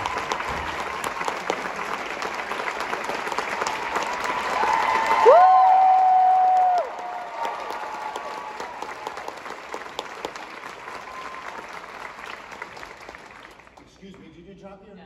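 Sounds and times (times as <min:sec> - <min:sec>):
audience applauding: 0:00.0 - 0:14.3.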